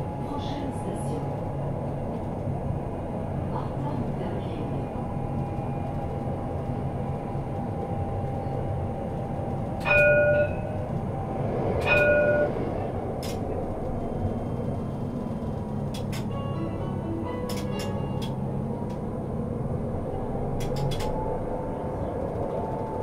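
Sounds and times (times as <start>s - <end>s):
tram rumbling along track: 0.0s - 23.0s.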